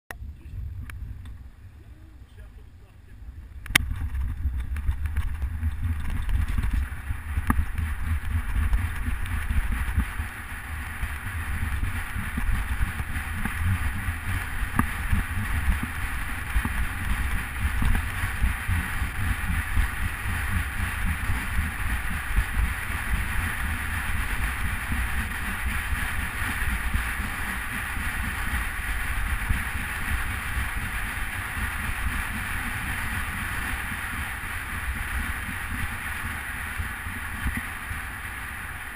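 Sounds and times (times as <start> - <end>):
wind buffeting microphone: 0.2 - 2.1, 3.4 - 38.9.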